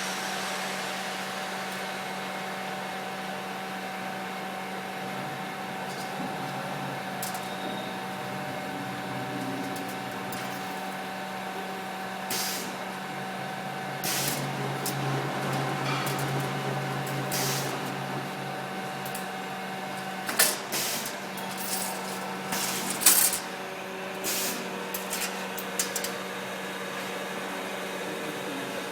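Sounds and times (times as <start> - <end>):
wire bending machine motor hum: 0.1 - 28.9.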